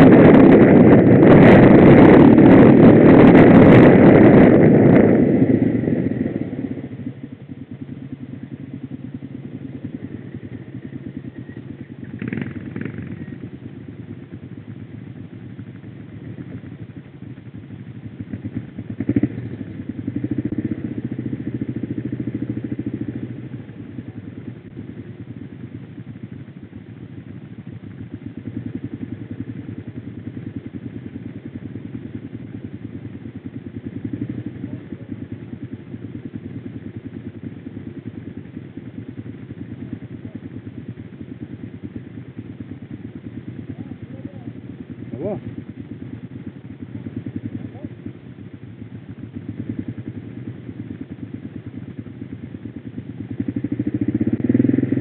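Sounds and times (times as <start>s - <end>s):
quad engine idling: 0.0s - 55.0s.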